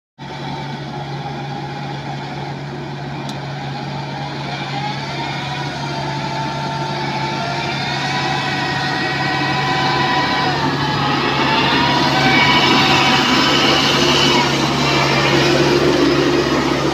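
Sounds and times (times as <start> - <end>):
heavy machine engine running: 0.2 - 16.9.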